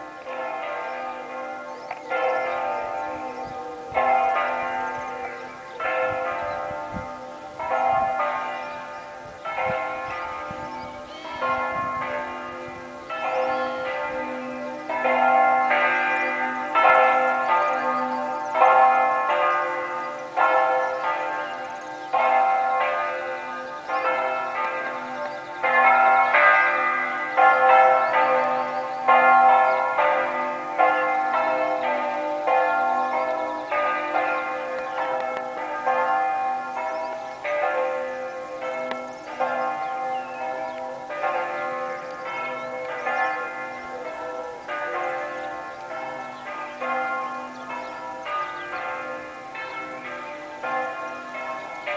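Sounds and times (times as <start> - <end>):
church bells ringing a peal: 0.0 - 51.9.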